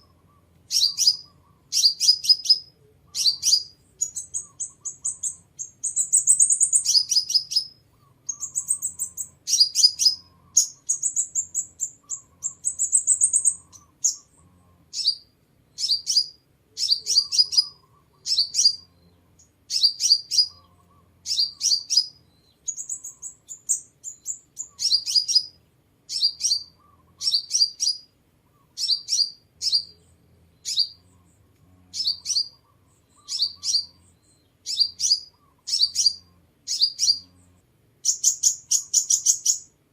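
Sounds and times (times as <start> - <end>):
bird calling with trills: 0.0 - 39.8.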